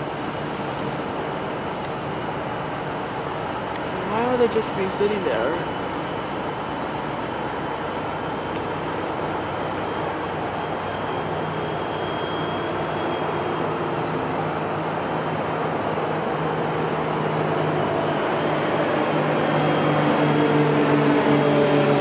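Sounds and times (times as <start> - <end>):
diesel locomotive engine idling: 0.0 - 22.0.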